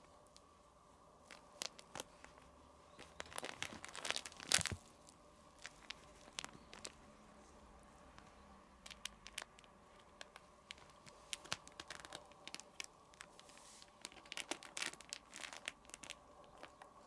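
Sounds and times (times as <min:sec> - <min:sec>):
crinkly cat toy rustling: 0:00.0 - 0:17.0.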